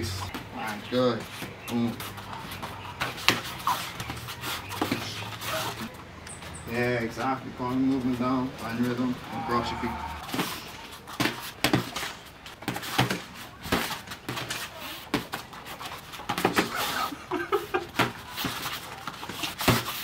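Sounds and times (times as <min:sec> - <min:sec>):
punches hitting gloves and bodies: 0:00.0 - 0:06.0, 0:07.9 - 0:17.0, 0:17.8 - 0:20.0.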